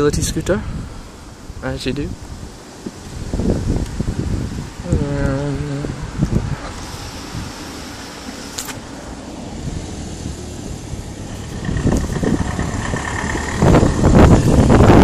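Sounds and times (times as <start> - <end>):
wind buffeting microphone: 0.0 - 15.0
mobility scooter rumble: 2.8 - 15.0.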